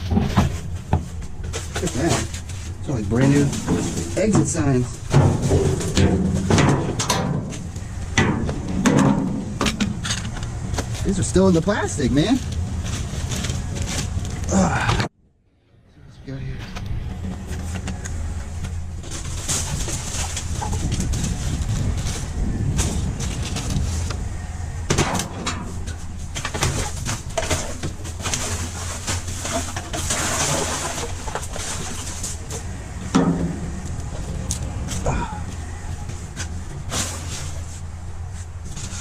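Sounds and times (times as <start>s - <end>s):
junk clattering and rustling: 0.0s - 15.1s, 16.6s - 39.0s
steady low rumble: 0.0s - 39.0s.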